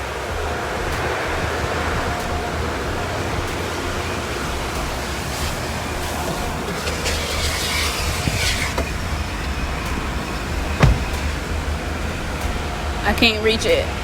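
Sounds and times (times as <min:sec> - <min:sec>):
car wash hiss: 0:00.0 - 0:13.8
car wash mechanical rumble: 0:00.0 - 0:14.0.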